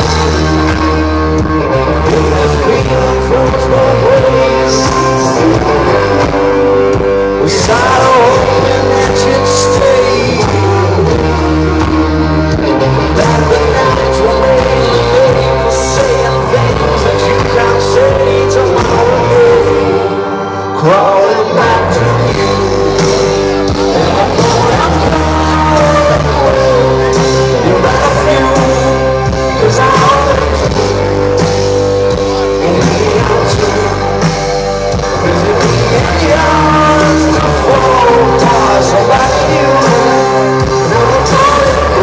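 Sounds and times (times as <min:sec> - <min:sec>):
bass guitar: 0:00.0 - 0:42.0
drums: 0:00.0 - 0:42.0
electric guitar: 0:00.0 - 0:42.0
person singing: 0:00.0 - 0:42.0.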